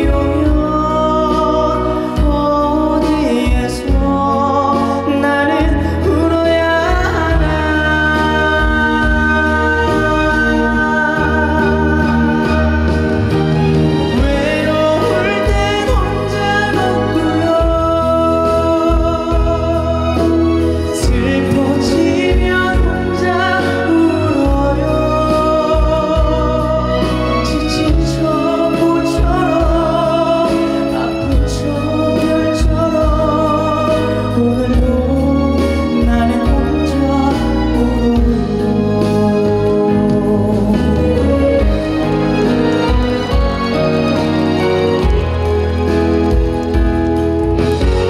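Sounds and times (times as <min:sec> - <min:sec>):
live pop ballad: 0:00.0 - 0:48.0.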